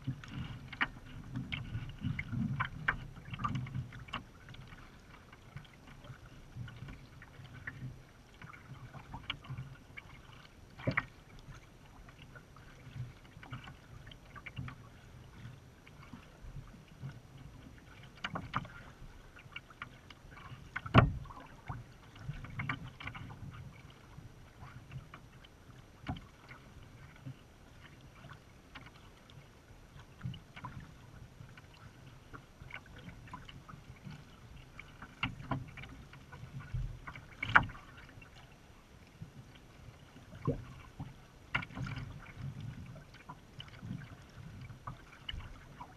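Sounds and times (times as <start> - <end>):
light splashes and ticks: 0.0 - 45.9
waves lapping against kayak hull: 0.0 - 45.9.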